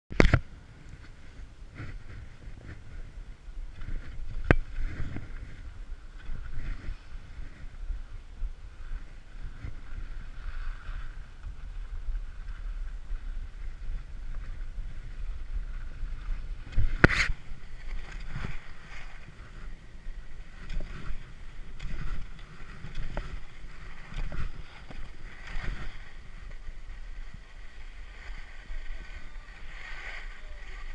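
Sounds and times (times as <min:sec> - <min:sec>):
wind rumble on microphone: 0:00.1 - 0:30.9
fabric rubbing on microphone: 0:00.8 - 0:08.1, 0:08.7 - 0:30.9.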